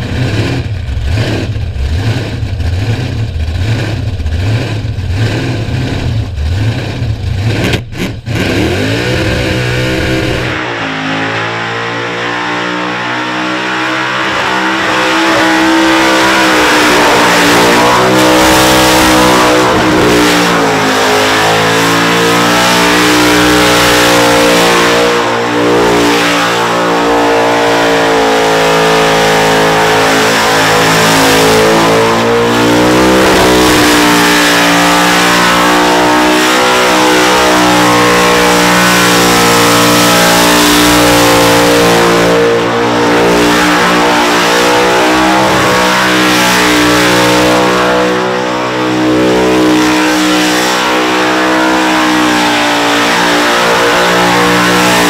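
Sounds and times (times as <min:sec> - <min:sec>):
engine revving at high revs: 0:00.0 - 0:55.0.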